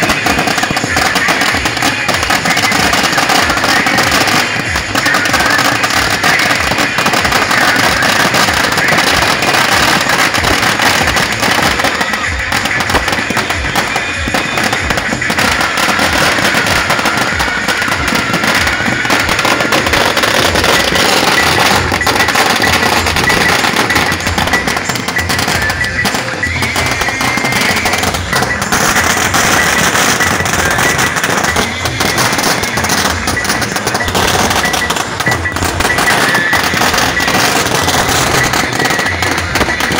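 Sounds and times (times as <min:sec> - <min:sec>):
firecrackers crackling: 0:00.0 - 0:39.9
music playing: 0:00.0 - 0:39.9.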